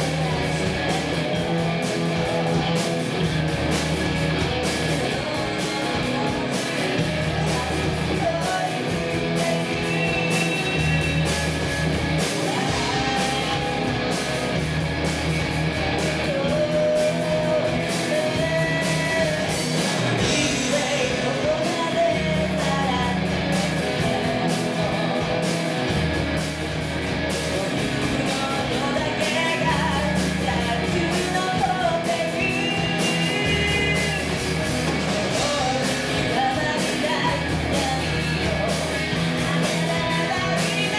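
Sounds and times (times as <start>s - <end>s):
lead vocalist singing: 0.0s - 2.8s, 4.7s - 14.2s, 15.8s - 25.9s, 27.5s - 40.9s
drums: 0.0s - 40.9s
electric bass: 0.0s - 40.9s
guitar: 0.0s - 40.9s.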